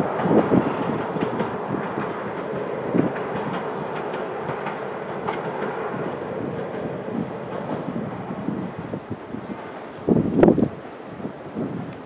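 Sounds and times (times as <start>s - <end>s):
clacks over rail joints: 0.0s - 12.0s
train wheels rumbling on rails: 0.0s - 12.0s.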